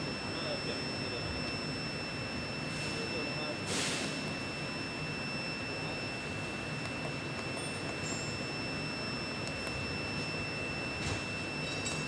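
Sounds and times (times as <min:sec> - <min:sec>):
air compressor hum and whine: 0:00.0 - 0:12.0.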